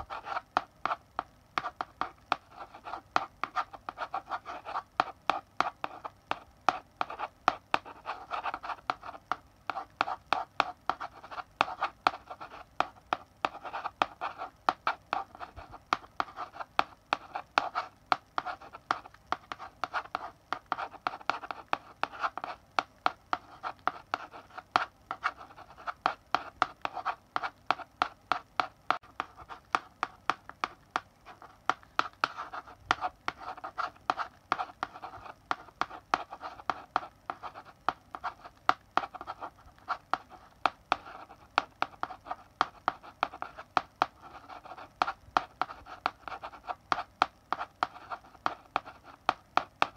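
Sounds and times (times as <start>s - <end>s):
chalk scratching on blackboard: 0.0s - 49.9s
chalk tapping on blackboard: 0.0s - 49.9s.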